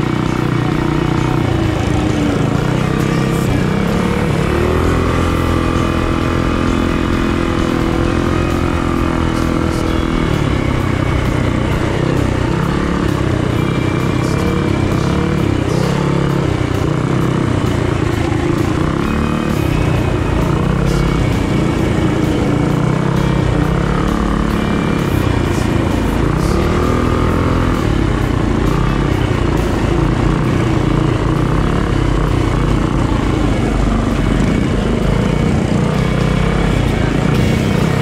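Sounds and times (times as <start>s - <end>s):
minibike engine running hard: 0.0s - 38.0s.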